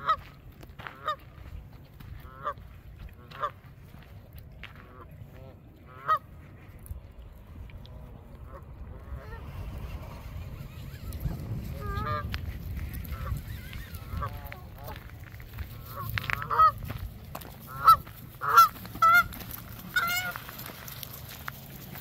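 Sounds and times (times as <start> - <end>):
geese honking: 0.0 - 0.3, 0.9 - 1.3, 2.1 - 3.9, 4.8 - 6.8, 8.1 - 21.5.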